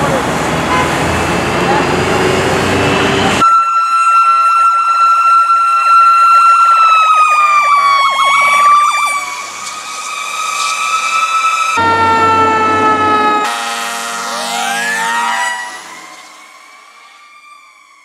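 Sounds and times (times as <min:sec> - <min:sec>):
high siren whine: 0:02.9 - 0:18.0
warbling siren: 0:03.0 - 0:18.0.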